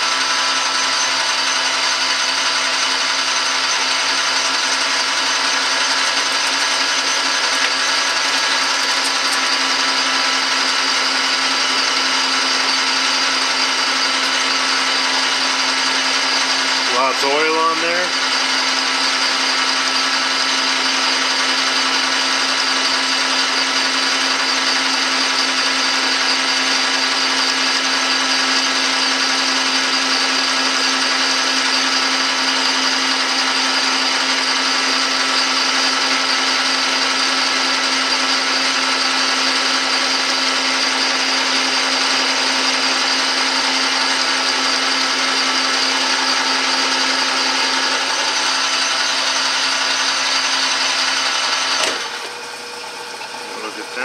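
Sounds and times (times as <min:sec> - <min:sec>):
metal lathe humming: 0:00.0 - 0:54.0.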